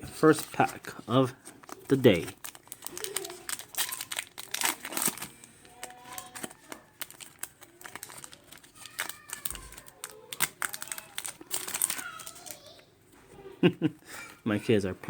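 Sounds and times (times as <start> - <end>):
foil wrapper crinkling: 0.2 - 12.8.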